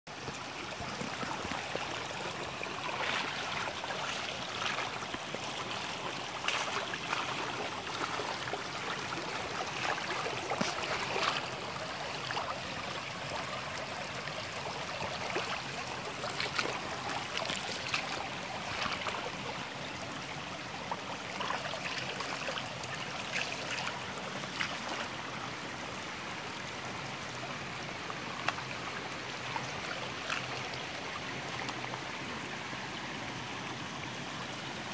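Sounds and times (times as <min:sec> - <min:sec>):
small water splashes: 0:00.1 - 0:32.5
brook babbling over gravel: 0:00.1 - 0:34.9.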